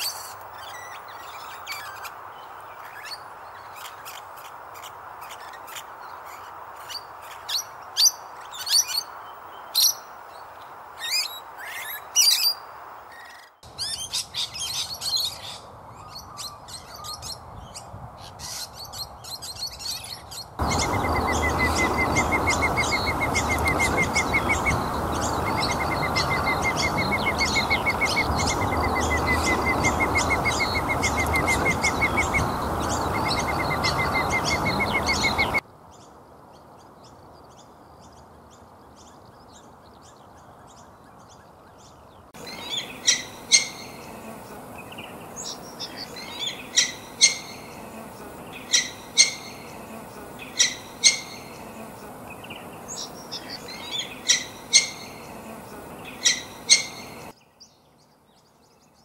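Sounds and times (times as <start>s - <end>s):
lorikeets chirping: 0.0s - 10.2s, 11.0s - 35.6s, 37.4s - 57.8s
chorus of bird chirps: 0.0s - 59.0s.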